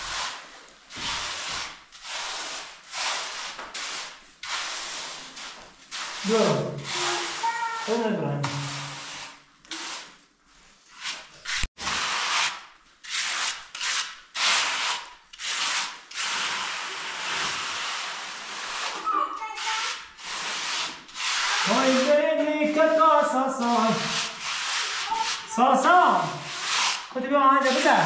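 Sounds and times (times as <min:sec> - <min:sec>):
steel trowel scraping wet cement: 0:00.0 - 0:10.2, 0:11.0 - 0:28.0.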